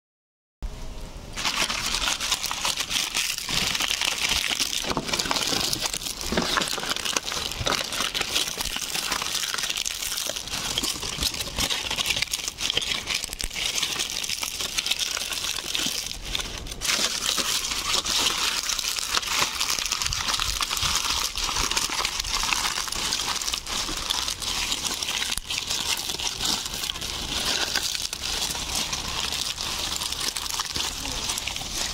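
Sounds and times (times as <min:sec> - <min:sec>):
dry leaves rustling: 0:01.3 - 0:31.9.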